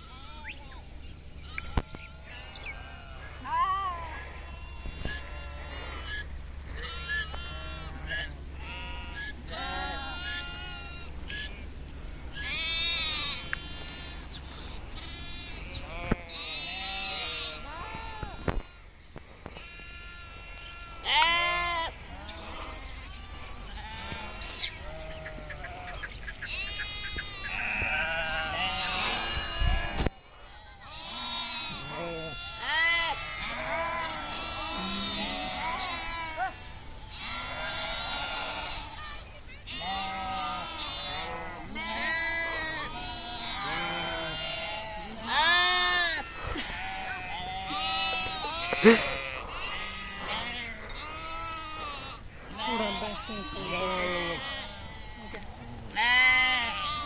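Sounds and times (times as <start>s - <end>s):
sheep bleating: 0.0s - 57.0s.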